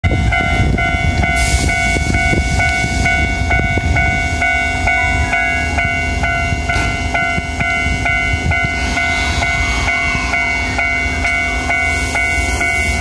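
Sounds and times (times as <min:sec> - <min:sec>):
railway warning bell ringing: 0:00.0 - 0:13.0
train engine low rumble: 0:00.0 - 0:13.0.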